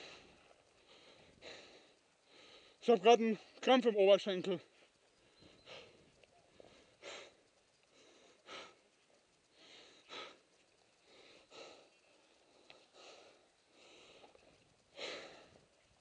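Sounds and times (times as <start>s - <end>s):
person breathing hard: 0.0s - 2.9s, 4.8s - 15.8s.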